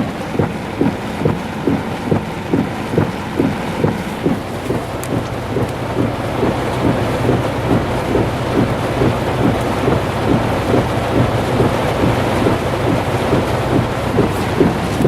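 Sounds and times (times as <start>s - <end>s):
heavy rain pouring: 0.0s - 15.0s
low rumble: 0.0s - 15.0s
quick splashing knocks: 0.0s - 15.0s.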